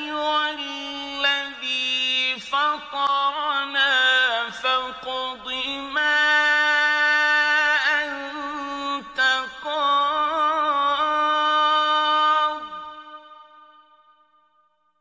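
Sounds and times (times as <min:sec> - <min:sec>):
man reciting melodically: 0:00.0 - 0:13.7.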